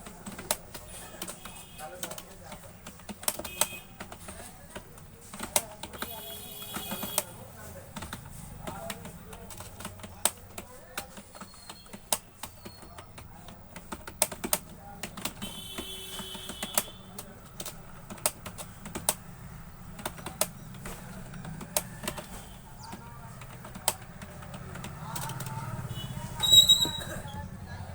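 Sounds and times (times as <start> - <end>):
keyboard typing clicks: 0.0 - 27.9.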